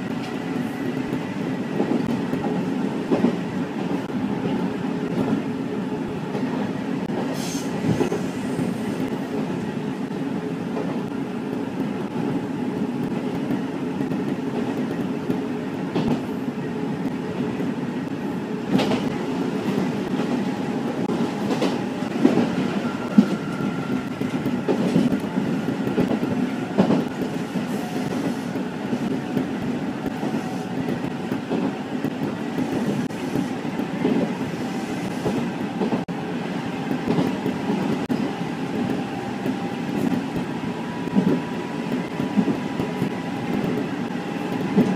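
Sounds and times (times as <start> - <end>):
electric train running rumble: 0.0 - 44.9.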